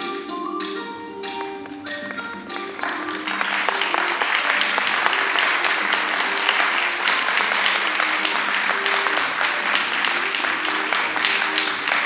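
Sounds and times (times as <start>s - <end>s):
soft music: 0.0s - 12.0s
audience applauding: 2.1s - 12.0s.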